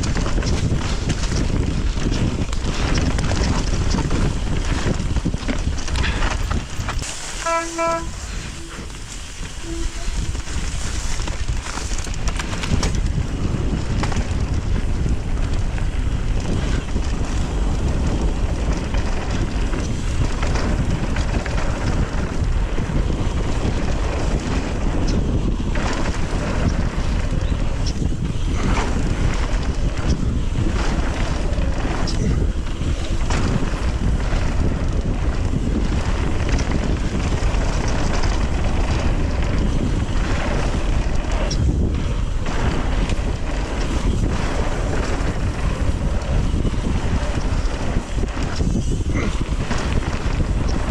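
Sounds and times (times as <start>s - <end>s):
bike clicks and rattles: 0.0s - 50.9s
wind rushing over microphone: 0.0s - 50.9s.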